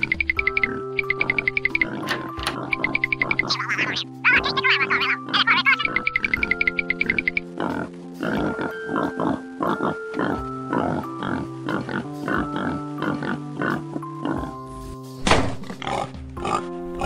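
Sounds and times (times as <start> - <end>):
pigs grunting: 0.0 - 14.8, 15.6 - 17.0
background music with held notes: 0.0 - 17.0.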